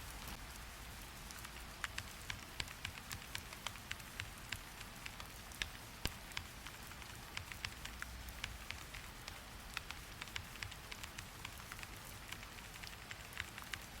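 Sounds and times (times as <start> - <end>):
sharp ticks of raindrops landing: 0.0 - 14.0
steady rain hiss: 0.0 - 14.0.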